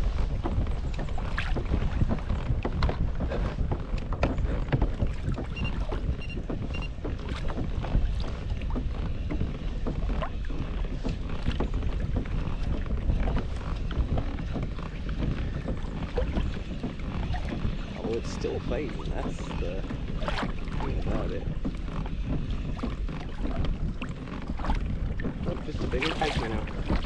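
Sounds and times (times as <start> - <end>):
water moving against kayak: 0.0 - 27.0
wind rumbling on microphone: 0.0 - 27.0.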